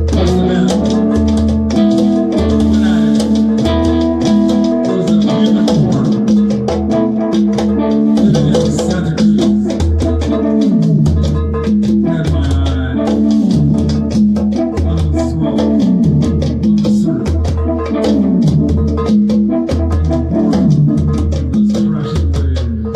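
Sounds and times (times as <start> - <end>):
pulsing bass: 0.0 - 22.6
drum and percussion hits: 0.0 - 22.9
plucked guitar melody: 0.0 - 22.9.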